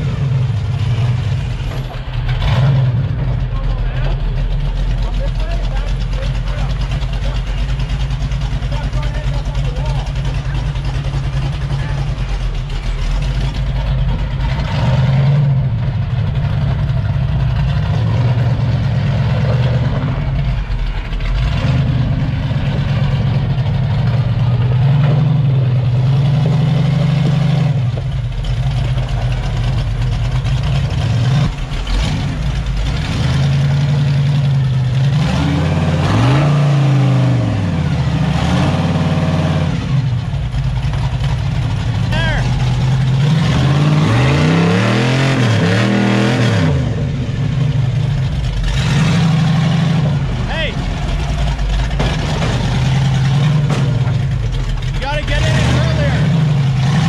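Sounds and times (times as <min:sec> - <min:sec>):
engine revving under load: 0:00.0 - 0:57.0.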